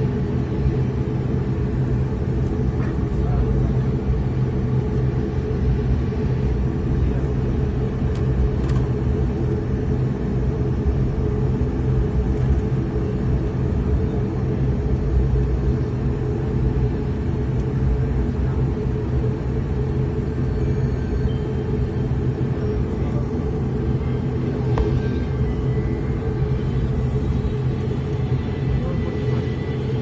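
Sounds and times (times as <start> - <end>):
propeller plane engines rumbling: 0.0 - 30.0.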